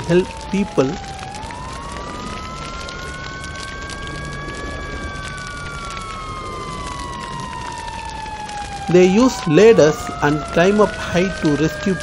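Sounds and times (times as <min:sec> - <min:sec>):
crackling hiss: 0:00.0 - 0:12.0
siren wailing: 0:00.0 - 0:12.0
steady siren tone: 0:00.0 - 0:12.0.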